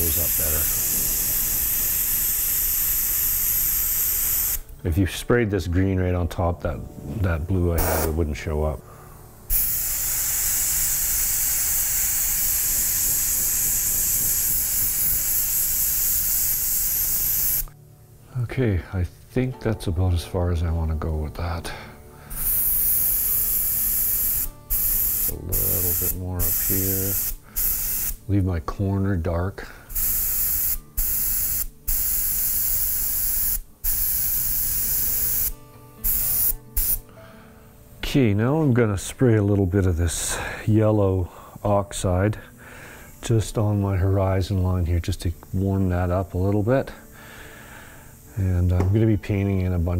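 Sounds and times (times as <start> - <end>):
airbrush spraying hiss: 0.0 - 4.8, 7.0 - 8.8, 9.4 - 17.8, 22.3 - 28.4, 29.6 - 37.2, 37.9 - 49.9.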